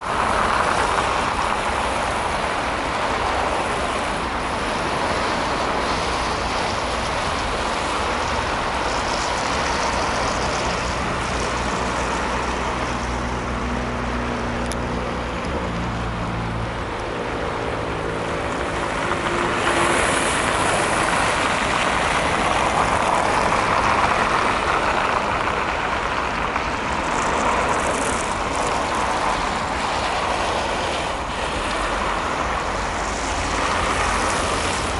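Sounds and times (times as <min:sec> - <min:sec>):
passing vehicles: 0:00.0 - 0:34.9.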